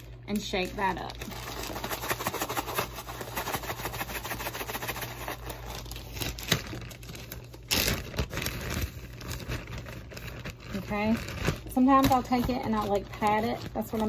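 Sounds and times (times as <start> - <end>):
plastic bag rustling: 0.0 - 14.0.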